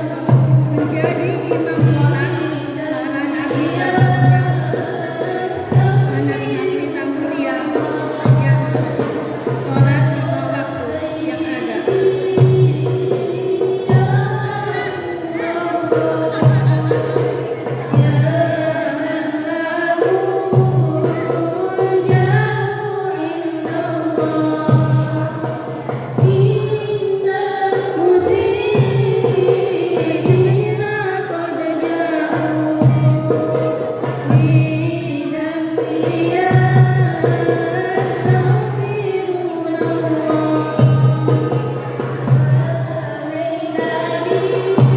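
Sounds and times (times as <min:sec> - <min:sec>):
devotional singing: 0:00.0 - 0:44.9
hand drums beating: 0:00.0 - 0:44.9.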